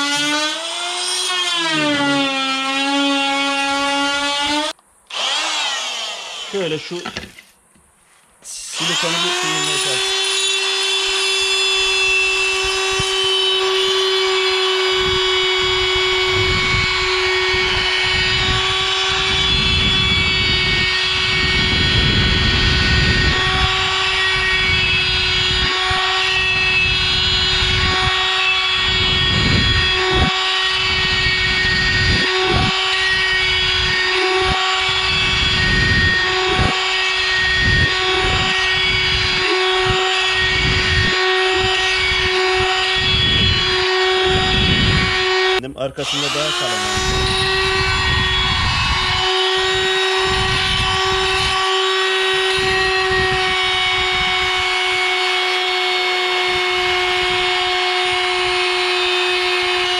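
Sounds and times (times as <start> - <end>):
oscillating multi-tool hum: 0.0 - 7.6, 8.4 - 59.9.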